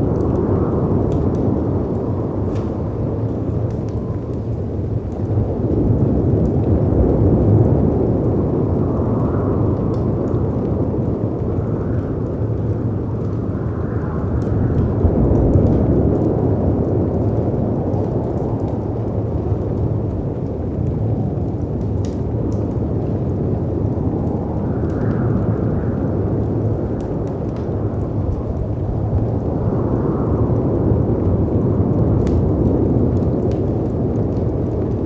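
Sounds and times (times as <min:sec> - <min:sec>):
rumbling wind: 0:00.0 - 0:35.0
wood fire crackling: 0:00.0 - 0:35.0.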